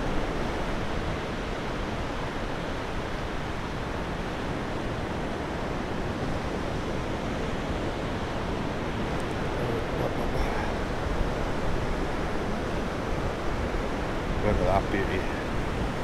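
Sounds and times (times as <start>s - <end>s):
surf washing on beach: 0.0s - 16.0s.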